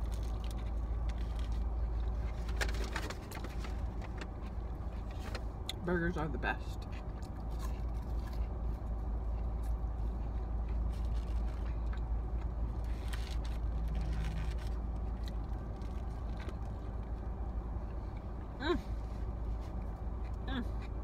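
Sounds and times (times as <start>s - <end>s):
clicks and rustles of eating: 0.0s - 5.8s, 6.8s - 18.3s
car interior rumble: 0.0s - 21.0s.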